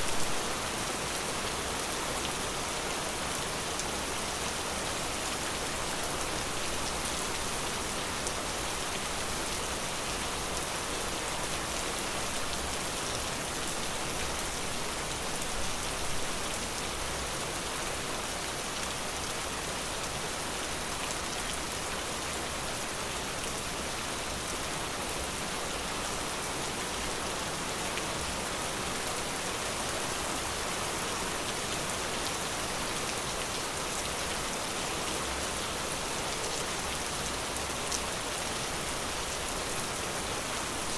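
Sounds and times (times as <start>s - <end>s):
rain hissing in forest: 0.0s - 40.9s.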